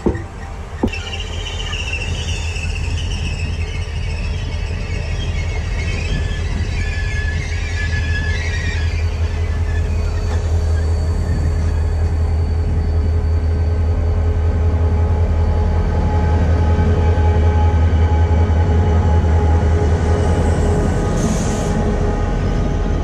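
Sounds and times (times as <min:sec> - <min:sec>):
train rolling past: 0:00.0 - 0:23.0.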